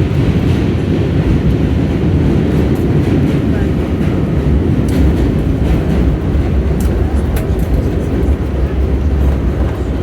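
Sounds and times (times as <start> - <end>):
subway train rumbling: 0.0 - 10.0
train car clicks and rattles: 0.0 - 10.0.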